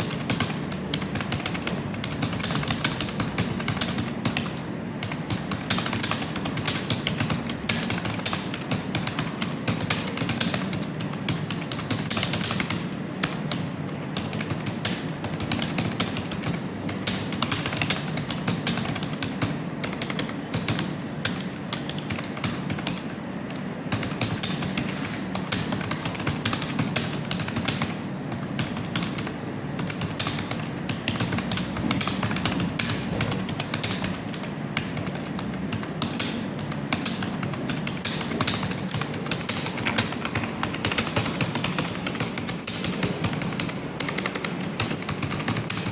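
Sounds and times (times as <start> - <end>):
fast typing on keyboard: 0.0 - 45.9.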